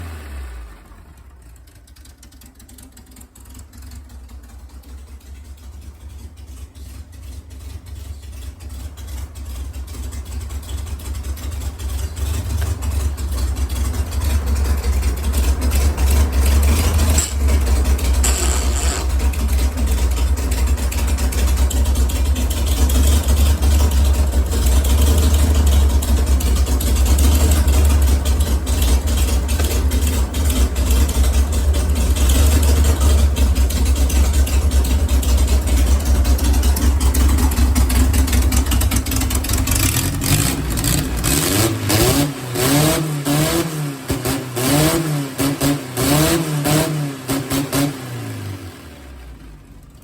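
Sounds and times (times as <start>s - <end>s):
car engine rumbling and revving: 0.0s - 50.0s.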